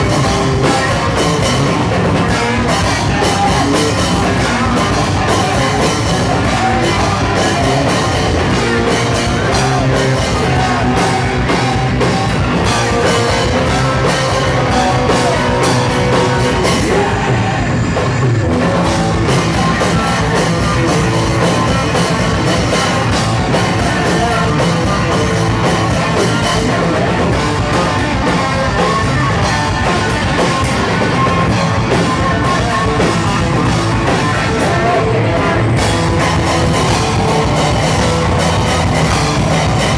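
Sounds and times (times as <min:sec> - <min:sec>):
person singing: 0:00.0 - 0:39.9
punk band playing live: 0:00.0 - 0:39.9.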